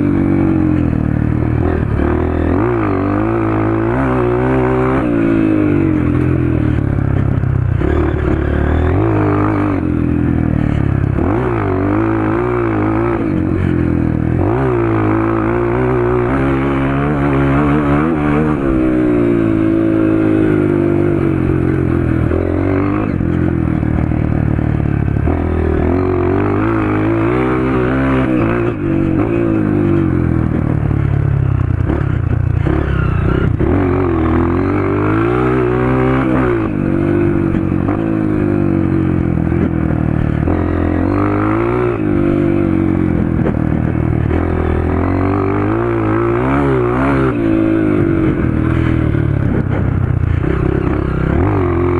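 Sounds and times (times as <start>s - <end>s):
dirt bike engine revving: 0.0s - 31.2s, 31.8s - 51.9s.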